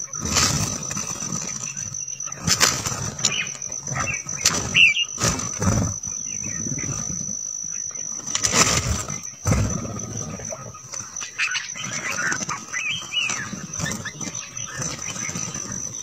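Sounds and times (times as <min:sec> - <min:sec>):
bird chirp: 0:00.0 - 0:16.0.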